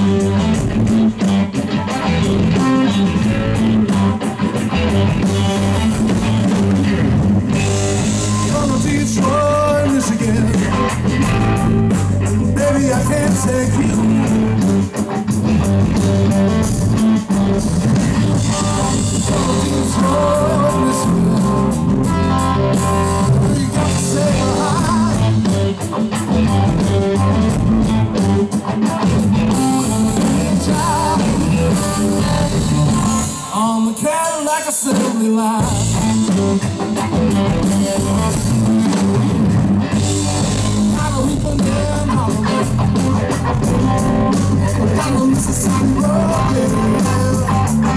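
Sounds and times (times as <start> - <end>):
electric bass: 0.0 - 33.8, 35.6 - 47.9
drum kit: 0.0 - 47.9
electric guitar: 0.0 - 47.9.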